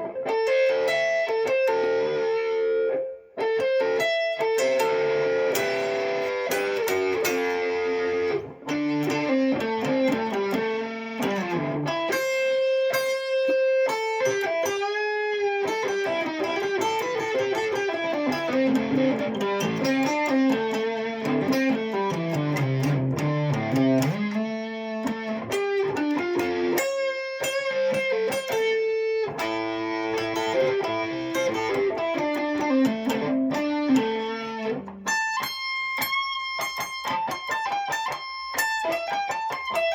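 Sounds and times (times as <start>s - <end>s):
plucked guitar melody: 0.0s - 39.9s.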